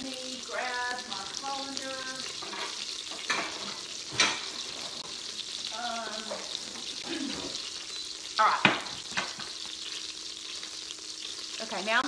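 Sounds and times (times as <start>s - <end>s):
butter sizzling in a pot: 0.0s - 12.0s.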